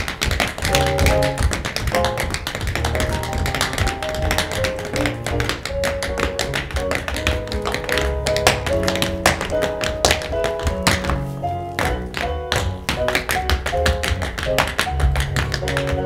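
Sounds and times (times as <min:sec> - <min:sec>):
piano accompaniment: 0:00.0 - 0:16.0
tap shoes on stage floor: 0:00.0 - 0:16.0.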